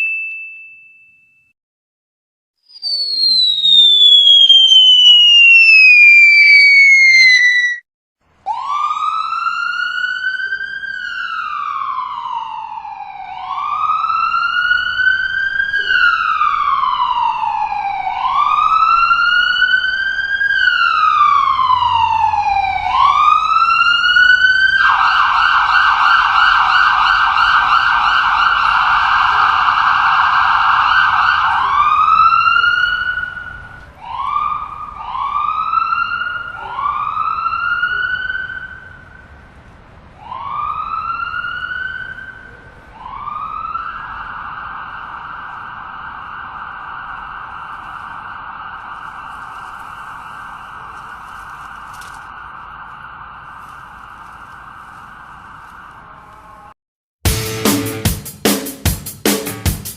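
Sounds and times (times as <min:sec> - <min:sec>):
emergency vehicle siren: 0:02.7 - 0:56.8.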